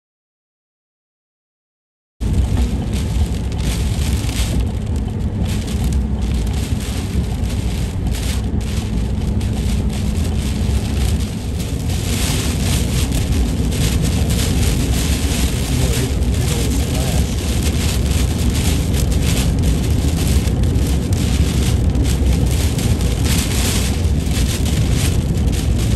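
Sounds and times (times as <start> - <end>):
rain pelting car: 2.2 - 25.9
wind and tyre rumble: 2.2 - 25.9.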